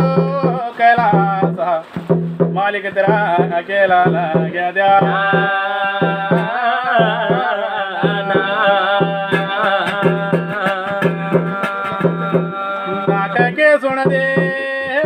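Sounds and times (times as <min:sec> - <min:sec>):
drum strokes: 0:00.0 - 0:15.0
long held instrumental tones: 0:00.0 - 0:15.0.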